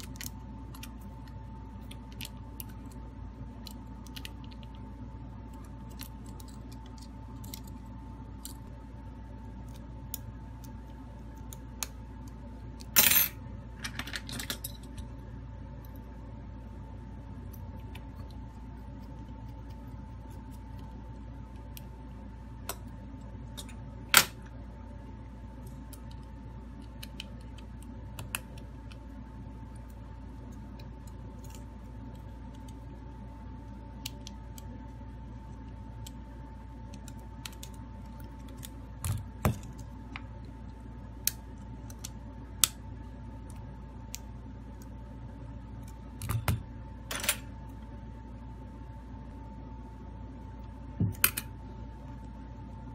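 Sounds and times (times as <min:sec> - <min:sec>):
steady electrical hum: 0:00.0 - 0:52.9.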